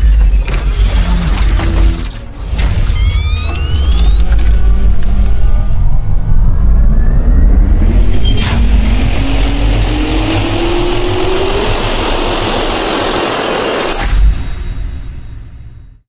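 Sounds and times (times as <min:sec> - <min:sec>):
heavy low rumble: 0:00.0 - 0:12.9
jet turbine whine rising: 0:00.9 - 0:14.1.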